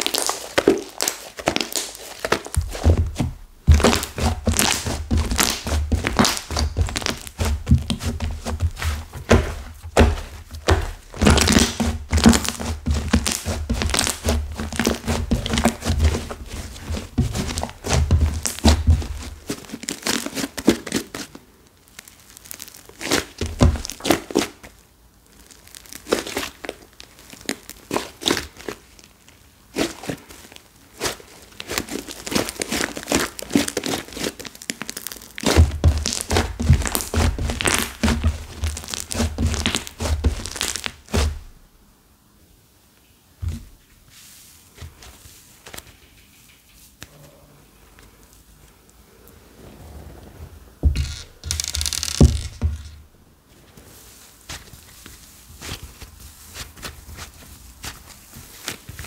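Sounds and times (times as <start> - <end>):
clay slime crackling and tearing: 0.0 - 41.6, 50.8 - 53.1, 53.8 - 59.0.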